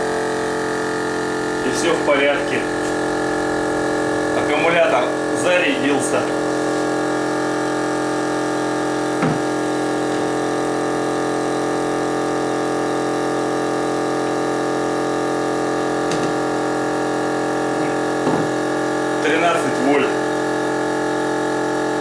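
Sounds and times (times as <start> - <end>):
electric air pump buzzing: 0.0 - 22.0.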